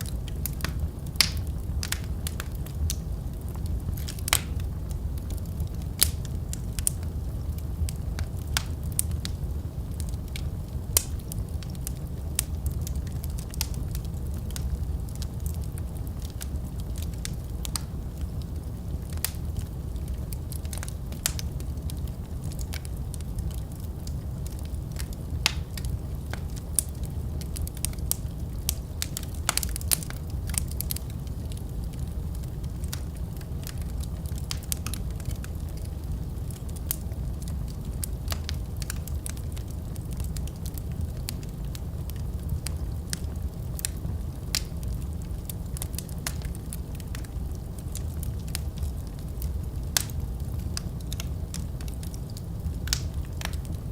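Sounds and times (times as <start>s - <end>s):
fire pops and snaps: 0.0s - 53.9s
wood fire crackling: 0.0s - 53.9s.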